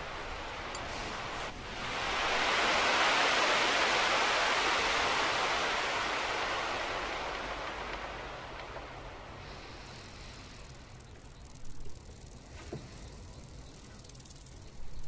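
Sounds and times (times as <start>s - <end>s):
rushing static hiss: 0.0s - 15.0s.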